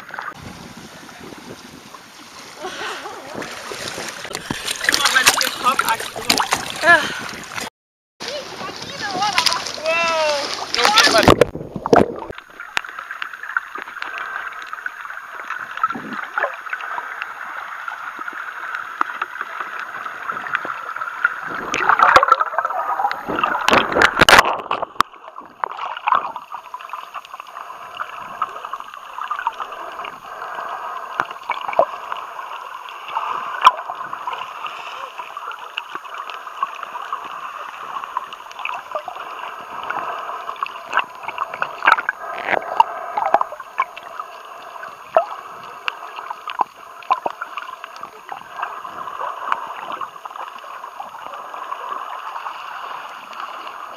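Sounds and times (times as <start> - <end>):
underwater rushing and gurgling: 0.0 - 53.9
water splashes: 0.0 - 53.9.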